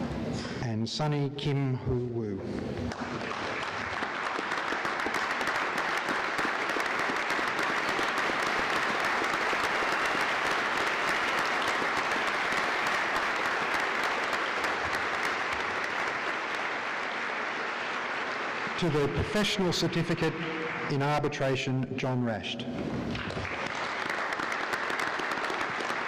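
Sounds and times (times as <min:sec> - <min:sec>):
large audience applauding: 0:02.9 - 0:21.6, 0:23.1 - 0:26.0.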